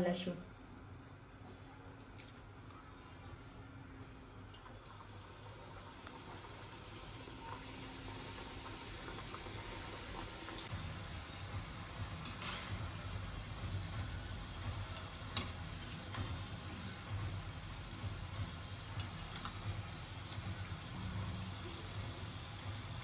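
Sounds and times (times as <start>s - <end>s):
deep-frying sizzle and bubbling: 0.7s - 23.0s.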